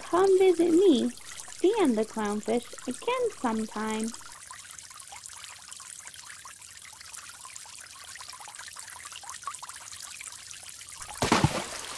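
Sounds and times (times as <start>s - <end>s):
water trickling and bubbling: 0.0s - 11.9s.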